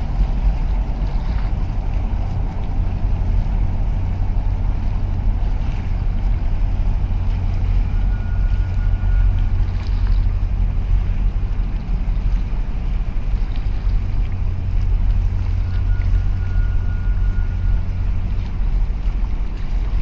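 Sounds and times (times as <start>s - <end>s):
ship rumbling: 0.0s - 20.0s
wind on microphone: 0.0s - 20.0s.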